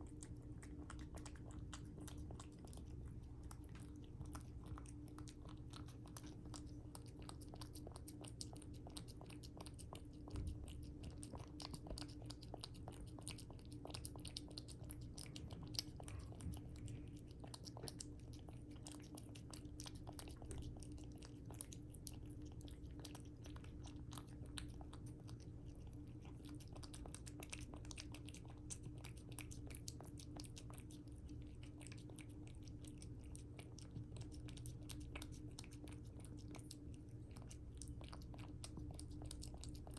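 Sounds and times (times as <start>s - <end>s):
cat chewing food: 0.0s - 39.9s
steady low hum: 0.0s - 39.9s.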